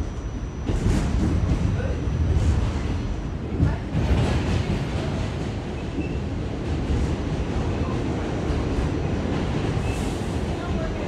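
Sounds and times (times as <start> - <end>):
subway car rumbling on track: 0.0 - 11.0.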